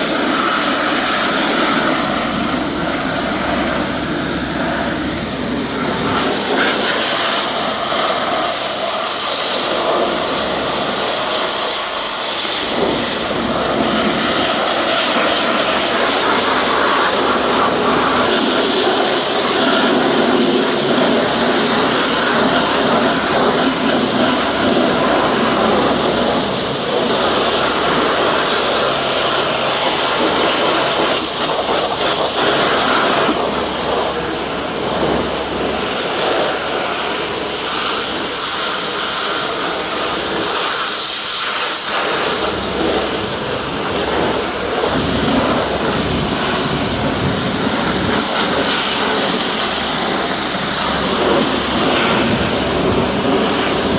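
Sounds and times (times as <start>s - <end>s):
pressure washer spraying water: 0.0s - 53.9s.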